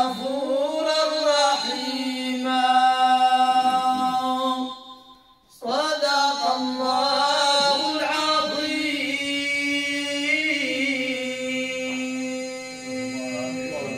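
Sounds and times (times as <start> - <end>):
man chanting: 0.0 - 4.9, 5.5 - 13.9.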